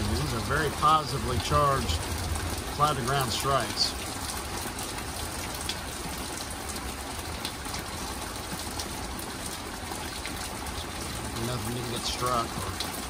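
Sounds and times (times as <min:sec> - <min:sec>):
rain hissing: 0:00.0 - 0:13.0
wind: 0:00.0 - 0:13.0.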